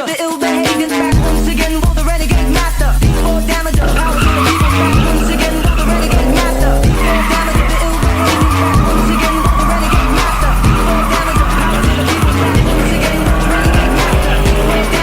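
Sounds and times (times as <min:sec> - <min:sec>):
background music with beat: 0:00.0 - 0:15.0
tires squealing: 0:00.4 - 0:15.0
car engine running: 0:00.8 - 0:15.0.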